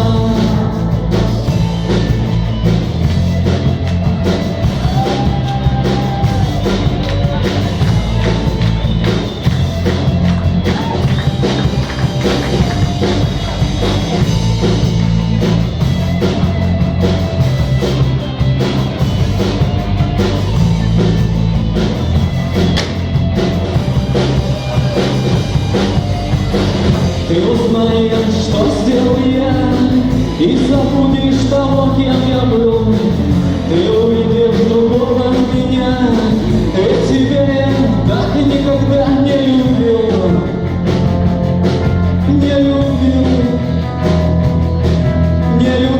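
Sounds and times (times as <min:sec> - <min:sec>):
drum kit beat: 0:00.0 - 0:45.9
guitar melody: 0:00.0 - 0:45.9
sustained bass notes: 0:00.0 - 0:45.9.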